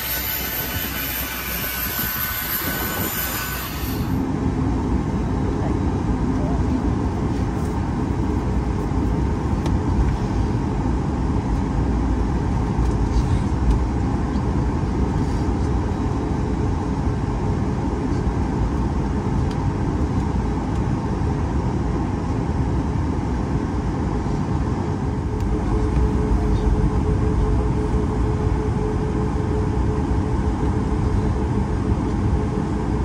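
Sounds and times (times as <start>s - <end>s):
jet engine low rumble: 0.0s - 33.0s.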